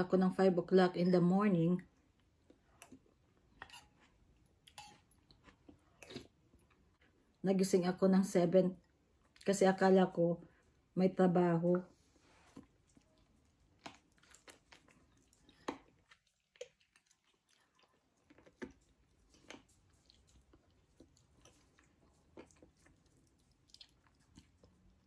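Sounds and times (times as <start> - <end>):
faint chewing and mouth sounds: 1.7 - 7.4, 8.7 - 11.0, 11.6 - 25.0.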